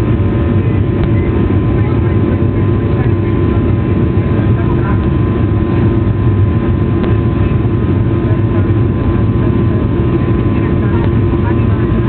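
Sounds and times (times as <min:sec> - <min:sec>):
jet engine drone in cabin: 0:00.0 - 0:12.0.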